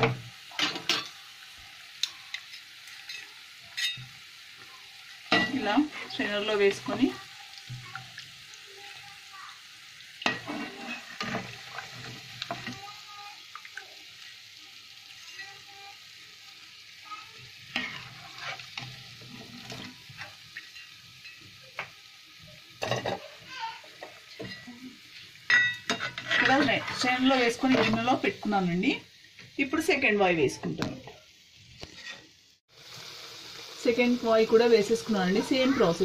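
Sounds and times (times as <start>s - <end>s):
oil sizzling in deep fryer: 0.0s - 36.0s.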